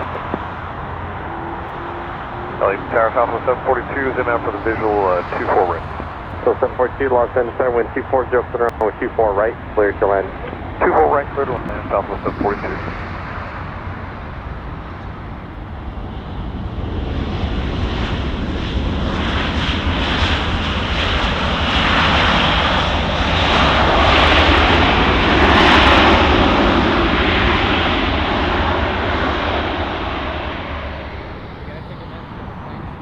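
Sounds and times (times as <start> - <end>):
jet airliner engine roar: 0.0 - 33.0.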